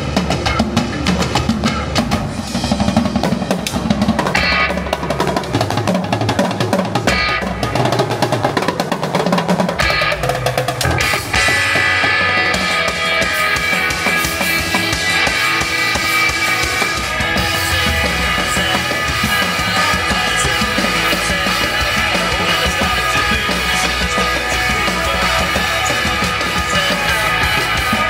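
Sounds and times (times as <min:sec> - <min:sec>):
backing rock music: 0:00.0 - 0:28.0
loud drum kit: 0:00.0 - 0:28.0.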